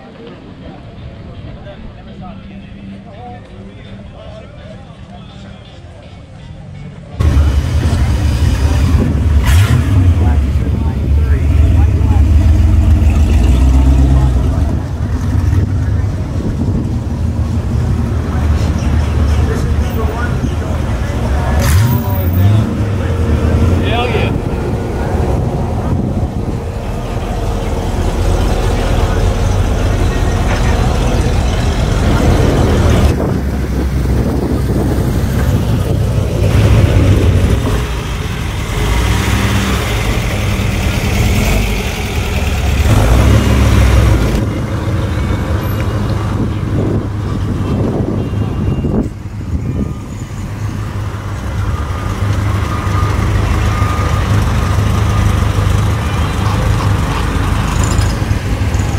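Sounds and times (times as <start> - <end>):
car and truck engines rumbling: 0.0 - 58.9
crowd voices: 0.0 - 58.9.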